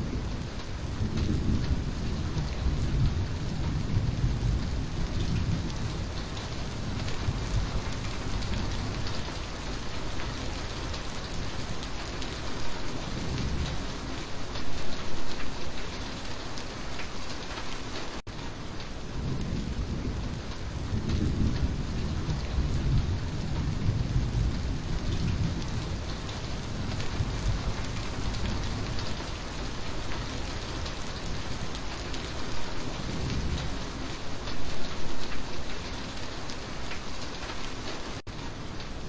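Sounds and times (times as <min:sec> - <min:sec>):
low rumble of thunder: 0:00.0 - 0:16.0, 0:18.3 - 0:36.3
steady rain falling: 0:00.0 - 0:39.0.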